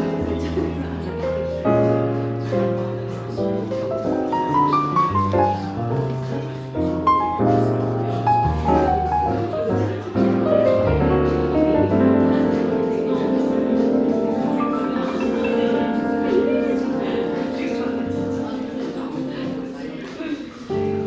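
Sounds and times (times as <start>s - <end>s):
jazz piano chords and melody: 0.0s - 21.0s.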